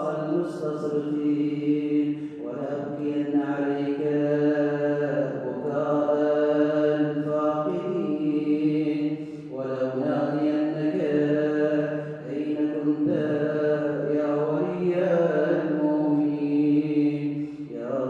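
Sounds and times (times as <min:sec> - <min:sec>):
man chanting: 0:00.0 - 0:18.0.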